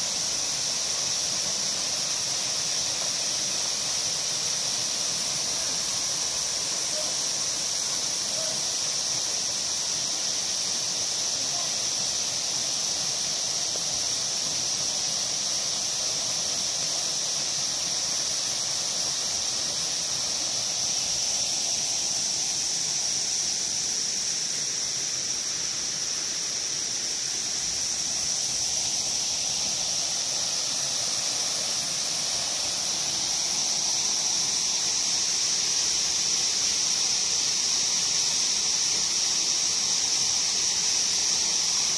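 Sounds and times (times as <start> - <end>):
cicadas droning: 0.0 - 41.9.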